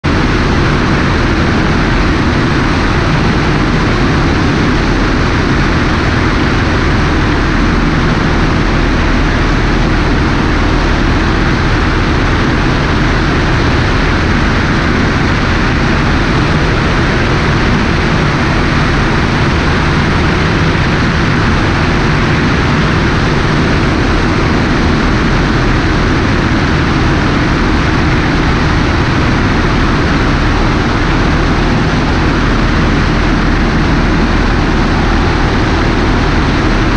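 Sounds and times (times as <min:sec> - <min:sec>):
airplane engine and propeller droning: 0:00.0 - 0:36.9
heavy wind rush: 0:00.0 - 0:36.9.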